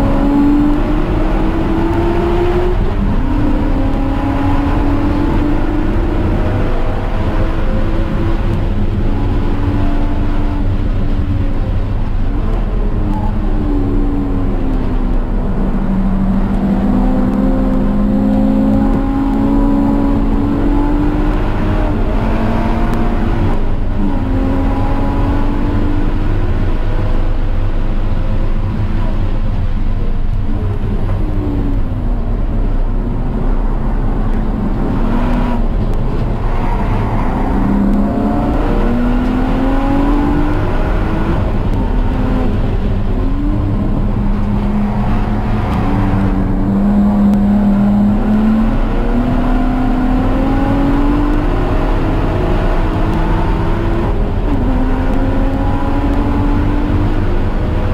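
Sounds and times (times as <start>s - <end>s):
race car engine: 0.0s - 57.9s
steady low rumble: 0.6s - 50.3s.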